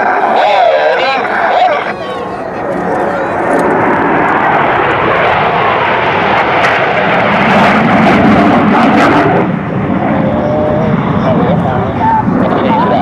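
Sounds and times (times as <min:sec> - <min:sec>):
jet engines flying past: 0:00.0 - 0:13.0.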